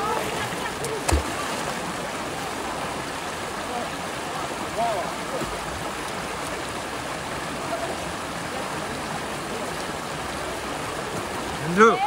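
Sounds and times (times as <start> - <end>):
river water rushing over stones: 0.0 - 12.0.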